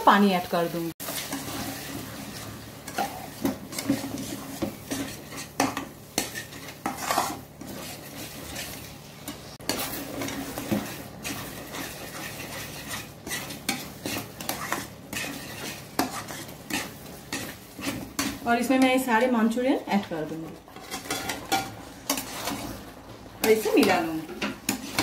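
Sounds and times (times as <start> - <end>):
spatula scraping a wok: 1.0 - 25.0.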